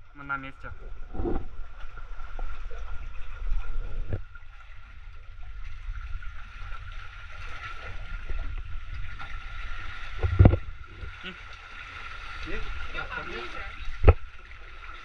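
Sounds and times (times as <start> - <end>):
water lapping and sloshing: 0.0 - 15.0.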